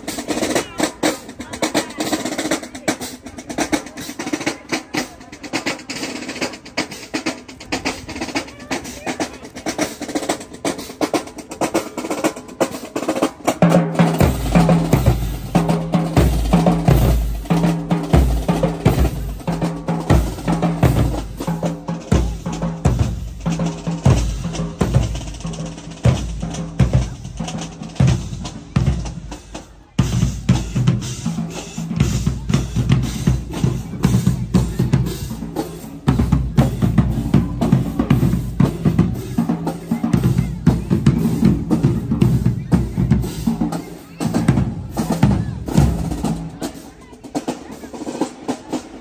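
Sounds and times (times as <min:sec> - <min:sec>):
snare drum rolls and rimshots: 0:00.0 - 0:49.0.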